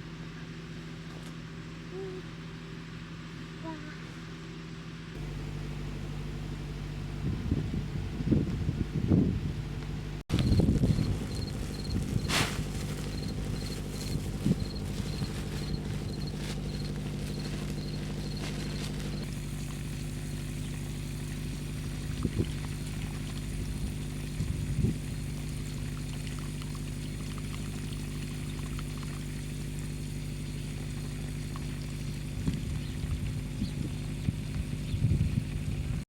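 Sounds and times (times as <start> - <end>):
motor humming: 5.2 - 36.0.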